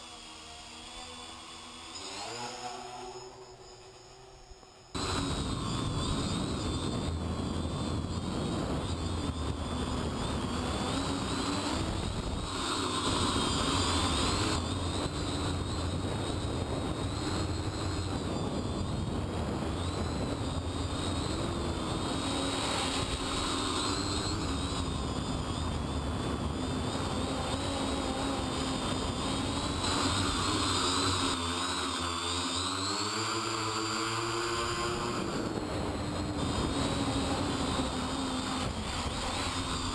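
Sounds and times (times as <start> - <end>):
quadcopter motors whining: 0.0 - 39.9
wind noise: 5.0 - 39.9.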